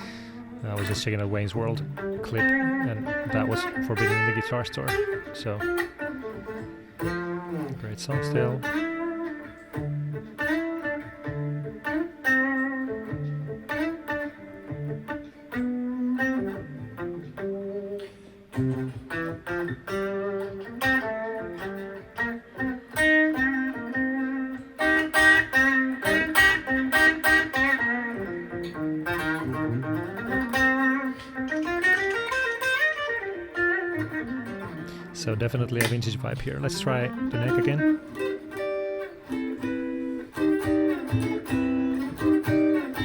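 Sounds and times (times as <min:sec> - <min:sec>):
electric guitar melody and chords: 0:00.0 - 0:43.0.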